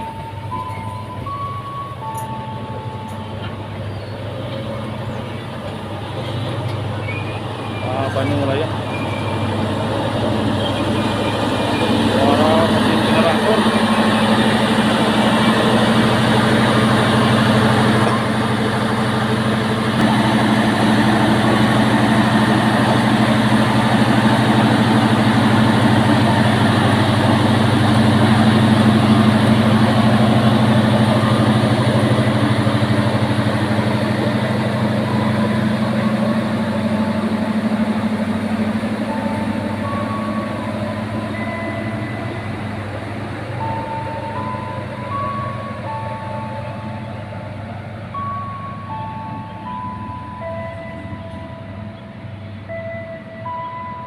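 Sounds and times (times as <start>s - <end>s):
diesel train engine droning: 0.0s - 54.0s.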